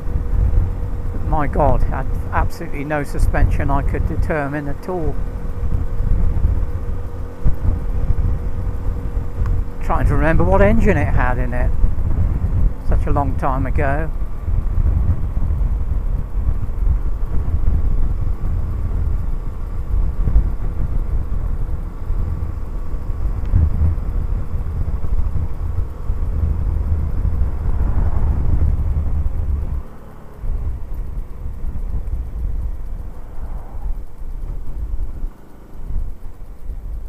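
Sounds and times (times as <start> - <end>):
motorbike engine running: 0.0 - 37.0
wind on microphone: 3.2 - 37.0.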